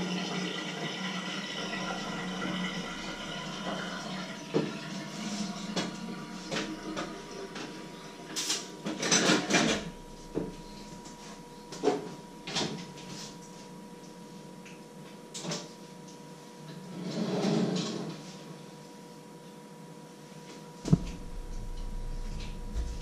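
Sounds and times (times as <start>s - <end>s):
faint steady hum: 0.0s - 16.9s, 18.2s - 23.0s.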